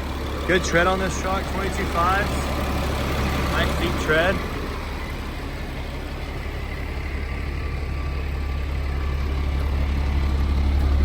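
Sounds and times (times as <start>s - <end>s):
truck diesel engine idling: 0.0s - 11.0s.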